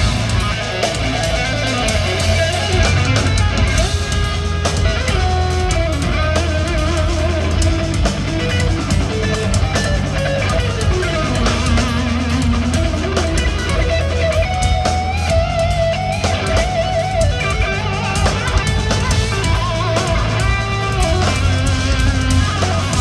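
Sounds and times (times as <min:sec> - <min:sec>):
drum kit: 0:00.0 - 0:23.0
electric guitar lead melody: 0:00.0 - 0:23.0
low guitar notes: 0:00.0 - 0:23.0.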